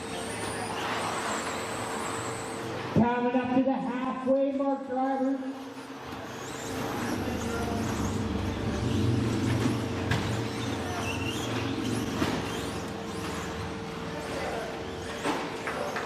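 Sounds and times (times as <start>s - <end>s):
electric motors whining: 0.0s - 3.0s, 5.4s - 16.0s.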